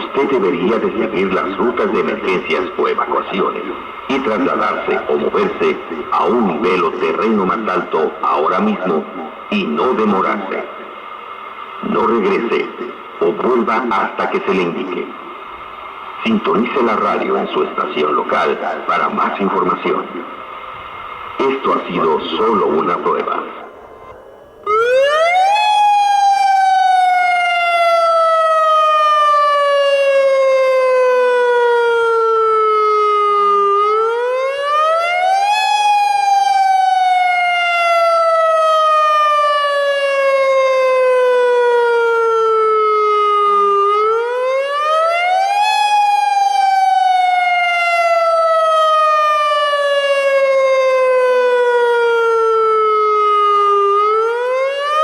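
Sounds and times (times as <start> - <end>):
electronic warning siren wailing: 0.0 - 55.0.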